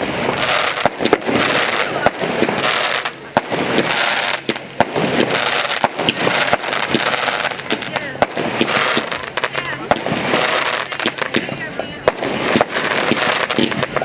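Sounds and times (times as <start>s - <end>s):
crackling hiss of burning shells: 0.0s - 14.0s
fireworks bangs and pops: 0.0s - 14.0s.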